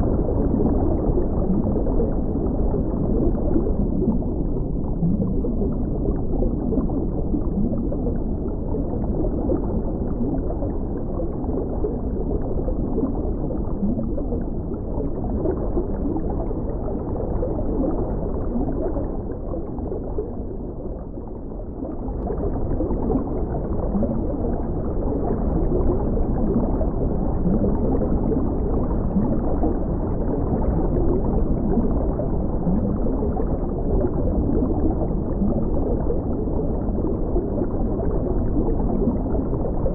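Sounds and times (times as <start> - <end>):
underwater rush of water: 0.0 - 39.9
water bubbling and gurgling: 0.0 - 39.9.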